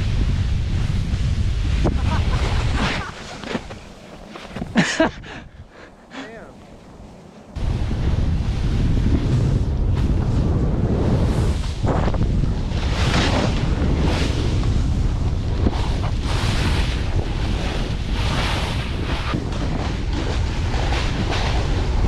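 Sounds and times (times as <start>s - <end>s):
snowboard scraping through snow: 0.0s - 22.0s
wind buffeting microphone: 0.0s - 22.0s.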